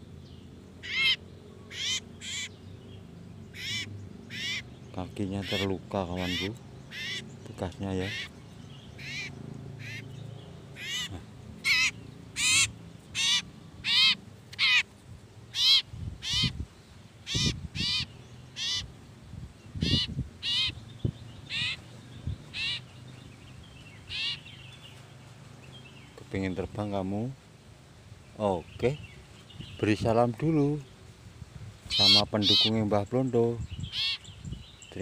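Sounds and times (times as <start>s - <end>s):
bird distress calls: 0.0s - 19.0s, 19.6s - 26.2s, 31.7s - 35.0s.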